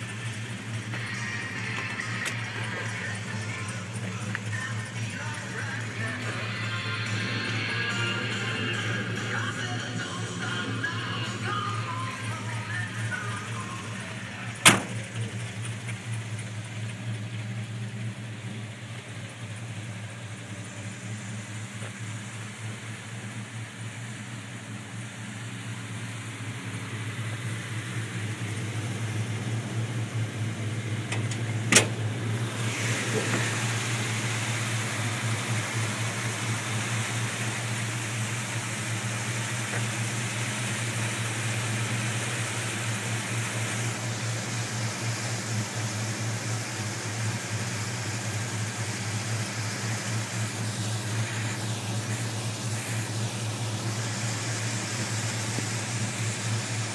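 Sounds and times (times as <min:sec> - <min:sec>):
car engine idling: 0:00.0 - 0:56.9.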